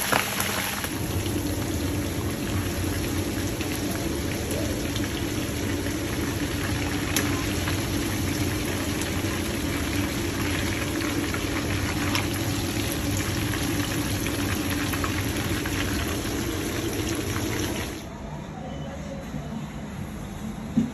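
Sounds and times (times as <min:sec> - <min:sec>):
hot oil bubbling and crackling: 0:00.0 - 0:18.1.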